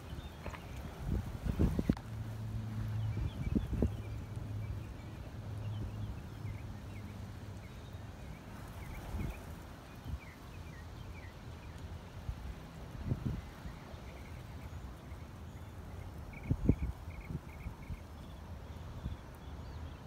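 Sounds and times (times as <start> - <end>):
steady low rumble: 0.0 - 19.6.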